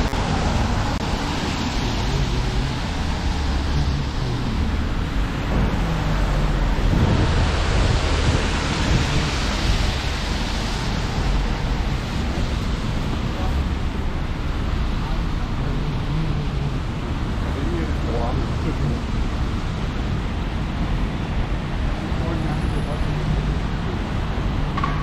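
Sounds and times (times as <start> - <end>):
rain hissing on wet road: 0.0 - 24.8
low traffic rumble: 0.0 - 25.0.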